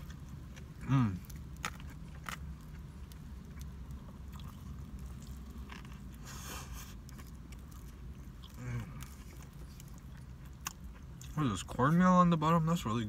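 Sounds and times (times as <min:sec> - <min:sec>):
person chewing sandwich: 0:00.0 - 0:11.8.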